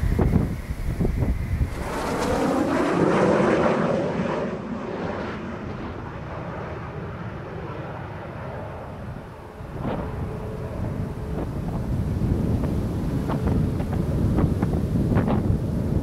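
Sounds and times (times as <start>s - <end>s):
jet engines on approach: 0.0s - 16.0s.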